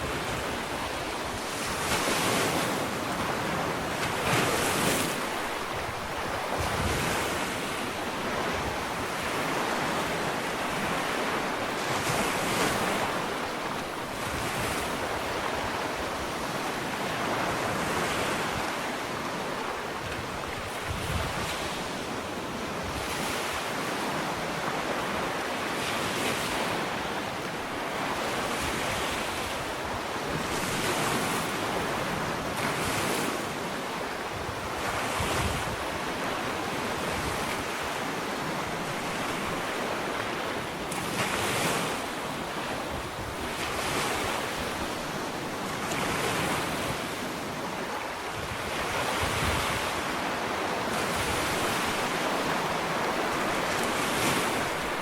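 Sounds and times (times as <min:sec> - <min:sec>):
waves breaking on sandy beach: 0:00.0 - 0:55.0.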